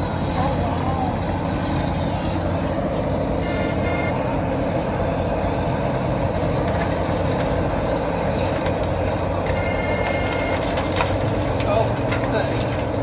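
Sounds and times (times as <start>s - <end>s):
diesel engine running: 0.0s - 13.0s
road milling machine grinding asphalt: 0.0s - 13.0s.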